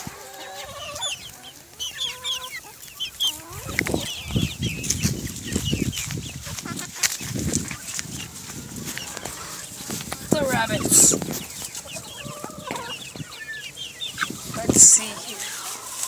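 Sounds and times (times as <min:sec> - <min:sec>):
hens clucking: 0:00.0 - 0:16.0
rustling through grass: 0:00.0 - 0:16.0.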